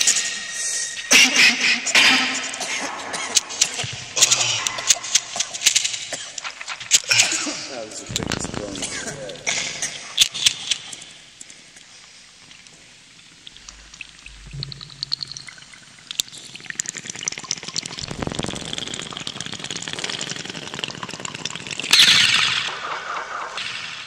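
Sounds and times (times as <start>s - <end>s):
scattered clicks and crackles: 3.3s - 12.8s, 13.4s - 24.0s.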